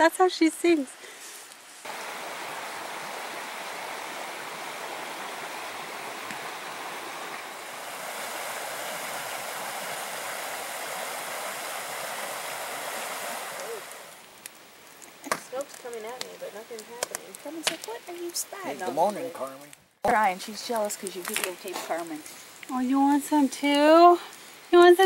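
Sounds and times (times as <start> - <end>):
water rushing over stones: 1.8 - 24.0.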